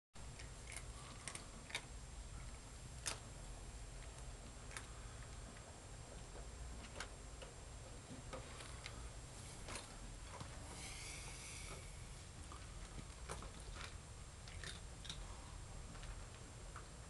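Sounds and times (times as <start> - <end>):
low steady hum: 0.2 - 17.0.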